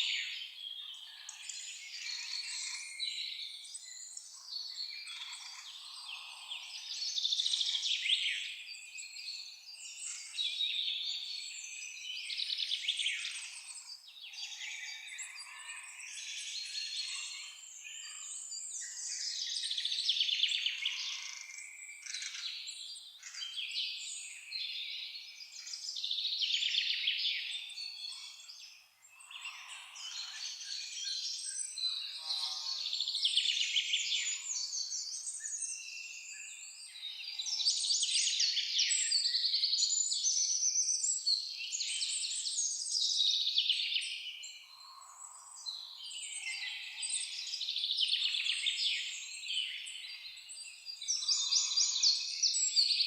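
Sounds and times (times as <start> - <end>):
songbirds chorus: 0.0 - 53.0.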